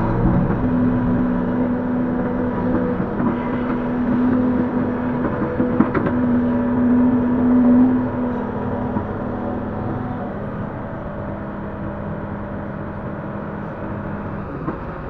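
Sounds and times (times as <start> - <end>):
excavator engine and hydraulic drone: 0.0 - 15.0.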